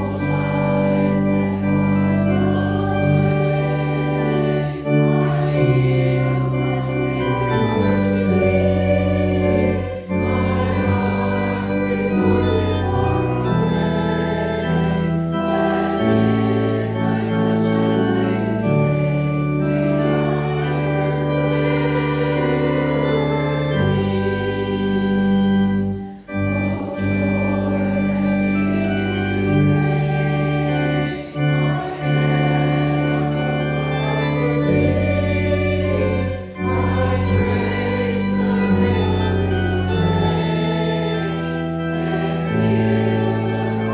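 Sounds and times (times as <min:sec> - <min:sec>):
church organ playing hymn chords: 0:00.0 - 0:43.9.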